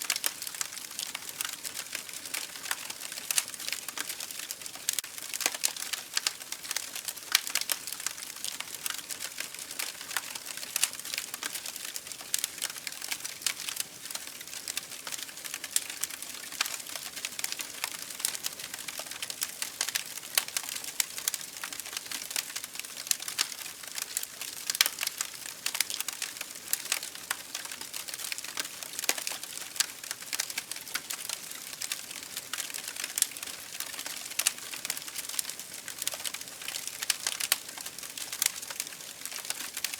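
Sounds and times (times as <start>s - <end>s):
campfire wood crackling and popping: 0.0s - 39.9s.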